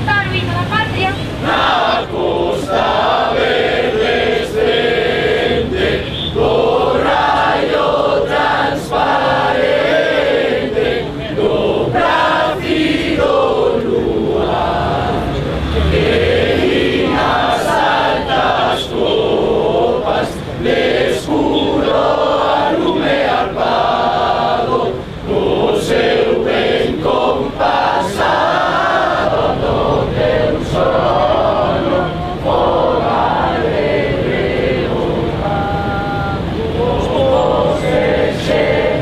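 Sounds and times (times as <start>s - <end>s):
crowd singing together: 1.2s - 39.0s.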